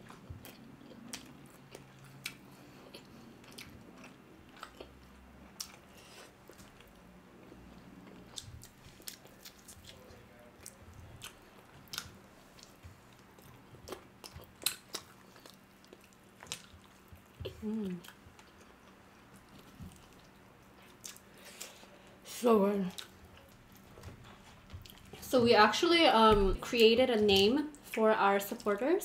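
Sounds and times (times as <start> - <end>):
people chewing: 0.0 - 22.2, 22.9 - 25.3.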